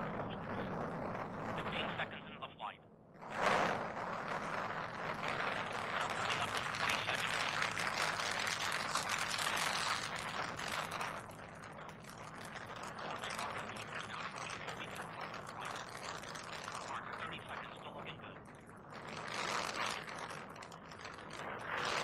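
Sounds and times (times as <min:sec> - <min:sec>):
rocket engines rumbling: 0:00.0 - 0:22.0.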